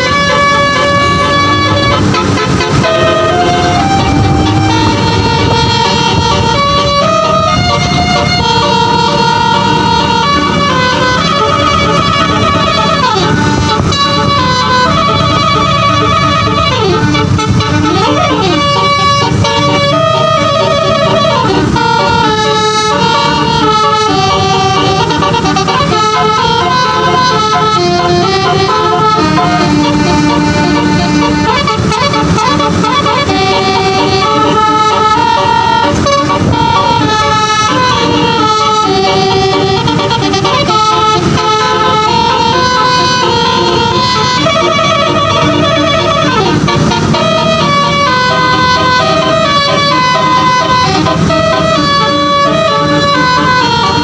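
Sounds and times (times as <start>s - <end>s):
low engine noise: 0.0s - 54.0s
multi-note air horn tune: 0.0s - 54.0s.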